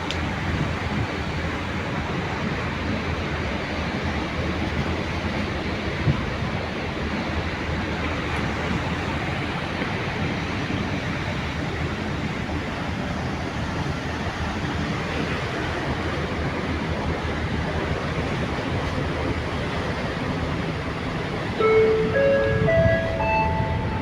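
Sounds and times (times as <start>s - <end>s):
choppy sea waves: 0.0s - 24.0s
wind: 0.0s - 24.0s.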